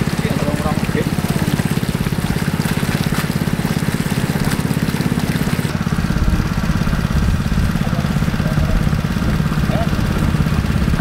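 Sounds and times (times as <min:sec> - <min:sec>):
engine chugging steadily: 0:00.0 - 0:11.0.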